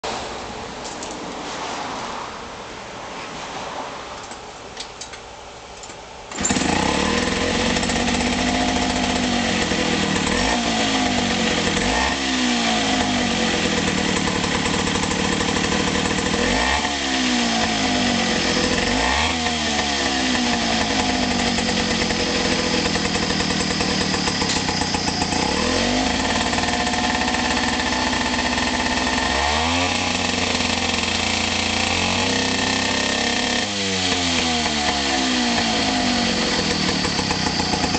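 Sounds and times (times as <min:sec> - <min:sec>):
outboard motor revving: 0:06.4 - 0:37.9.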